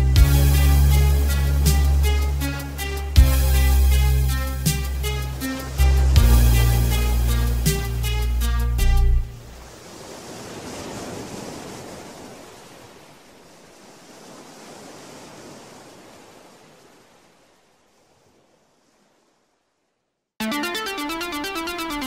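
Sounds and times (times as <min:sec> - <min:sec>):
waves washing on a beach: 0:00.2 - 0:07.9, 0:09.4 - 0:19.6.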